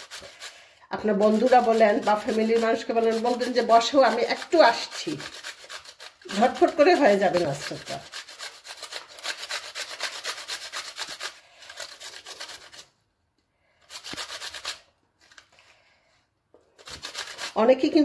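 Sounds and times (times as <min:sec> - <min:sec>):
potato grated on metal grater: 0:00.0 - 0:13.0, 0:13.8 - 0:15.4, 0:16.7 - 0:18.0.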